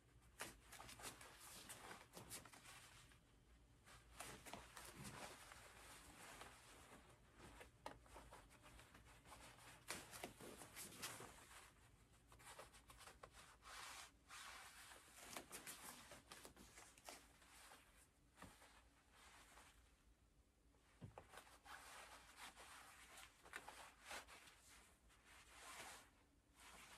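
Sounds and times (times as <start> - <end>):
fabric rustling and swishing: 0.3 - 20.0, 20.8 - 26.9.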